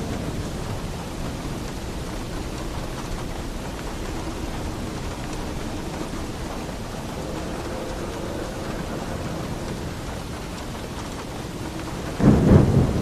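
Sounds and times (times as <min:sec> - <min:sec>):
heavy rain on a roof: 0:00.0 - 0:13.0.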